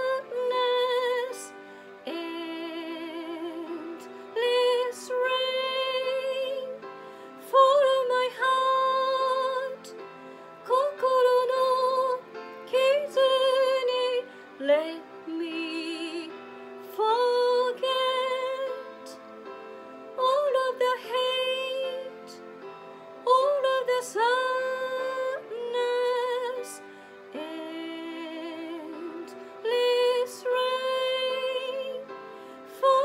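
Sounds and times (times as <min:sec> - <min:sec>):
woman singing a slow ballad: 0:00.0 - 0:19.2, 0:20.2 - 0:22.4, 0:23.2 - 0:33.0.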